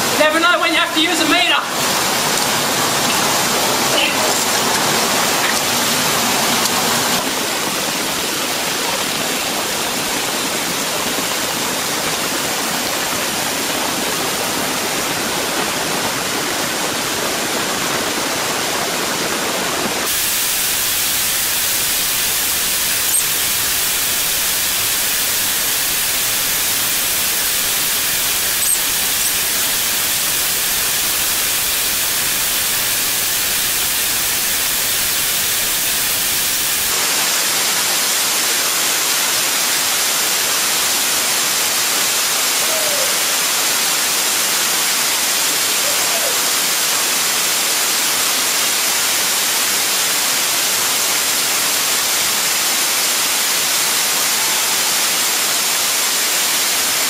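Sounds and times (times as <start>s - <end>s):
creek and waterfall rushing: 0.0s - 57.0s.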